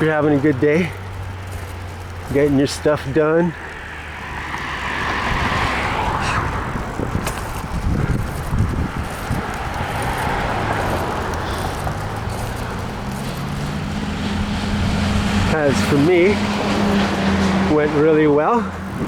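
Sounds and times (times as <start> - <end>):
low vehicle engine hum: 0.0 - 19.0
road traffic: 0.0 - 19.0
wind buffeting microphone: 0.0 - 19.0.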